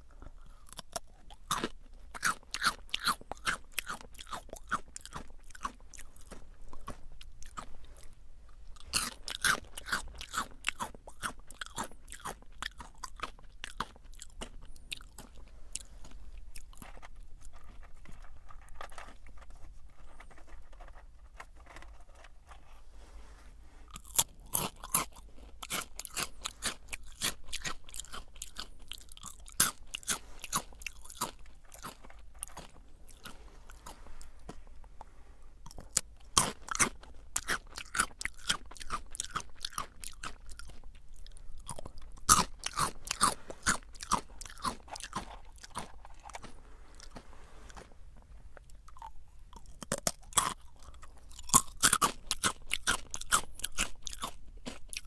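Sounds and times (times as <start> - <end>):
chewing crunchy snack: 0.0 - 22.8, 23.8 - 55.0.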